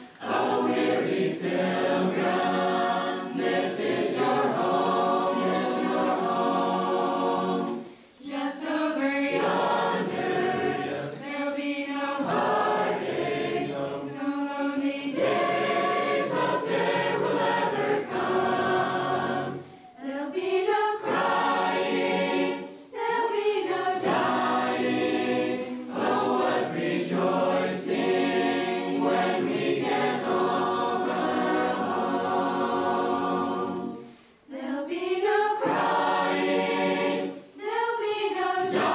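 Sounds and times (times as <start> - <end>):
mixed choir singing a cappella: 0.0 - 38.9.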